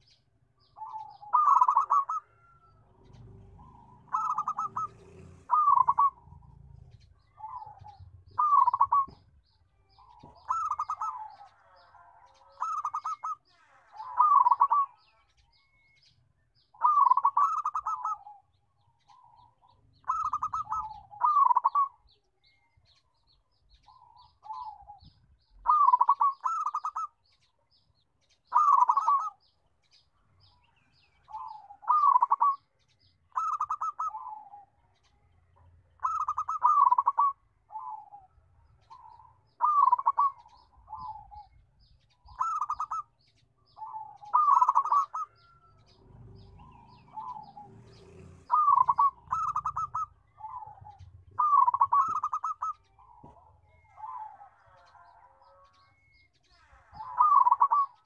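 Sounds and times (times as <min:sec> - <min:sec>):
dove cooing: 0:00.0 - 0:15.9, 0:16.6 - 0:27.5, 0:28.4 - 0:58.0.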